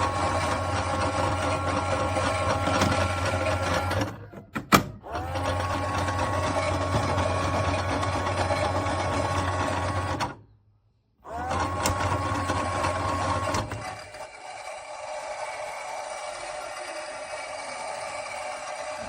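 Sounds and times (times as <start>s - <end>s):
toy washing machine whirring: 0.0s - 10.4s, 11.2s - 19.0s.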